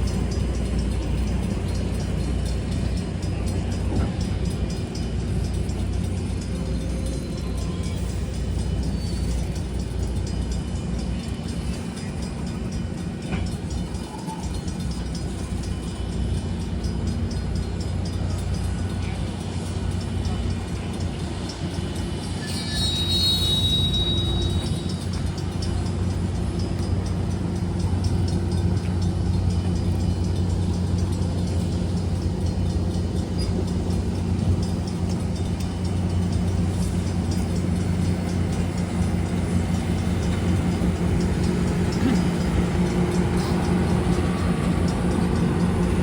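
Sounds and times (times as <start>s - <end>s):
locomotive engines droning: 0.0s - 46.0s.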